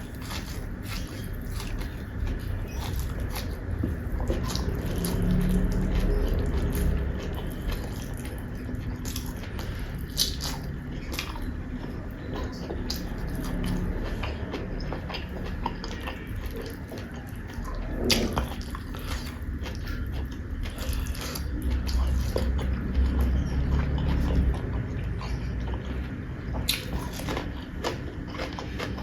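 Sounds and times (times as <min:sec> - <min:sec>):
chewing and biting: 0:00.0 - 0:29.0.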